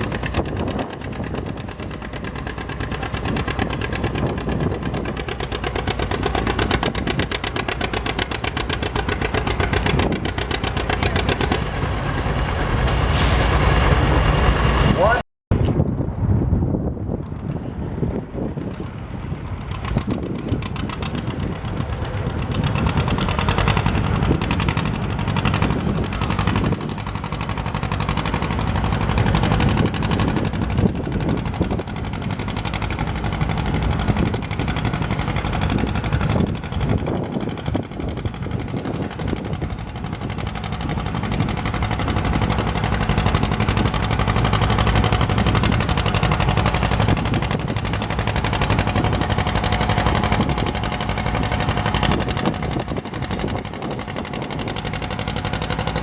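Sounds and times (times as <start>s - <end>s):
tractor engine working hard: 0.0s - 56.0s.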